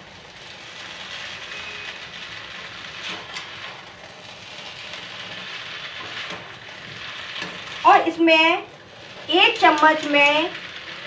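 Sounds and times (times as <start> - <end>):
noodles sizzling in a pan: 0.0 - 11.0.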